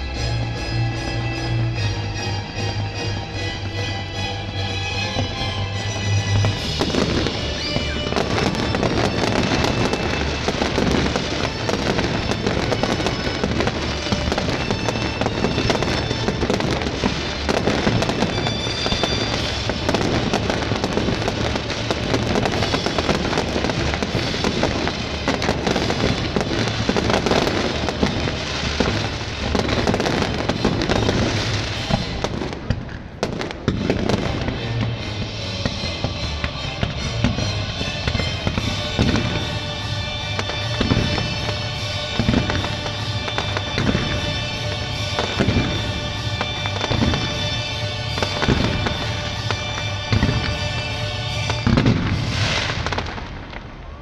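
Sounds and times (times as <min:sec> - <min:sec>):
show music: 0:00.0 - 0:53.8
fireworks bangs and crackles: 0:00.0 - 0:54.0.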